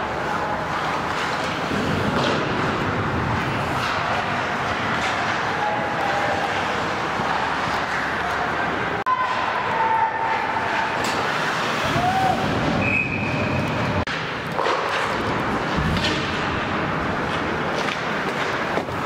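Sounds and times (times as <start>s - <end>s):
hockey sticks and puck clacking: 0.0s - 19.0s
skates on ice: 0.0s - 19.0s.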